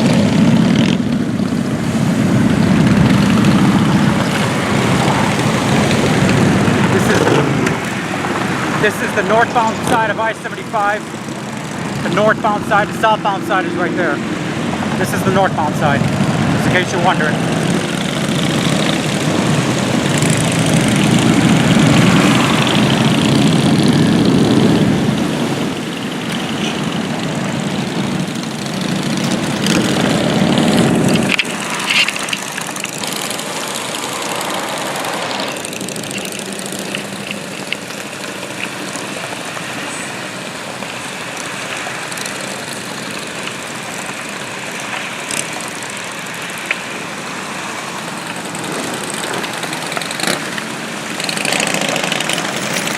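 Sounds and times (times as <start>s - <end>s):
motorcycles riding past: 0.0s - 52.9s
traffic noise: 0.0s - 52.9s.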